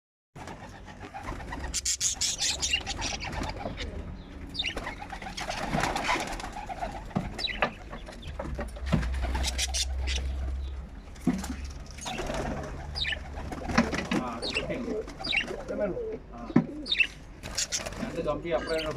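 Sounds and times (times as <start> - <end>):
steady low hum: 0.4 - 18.9.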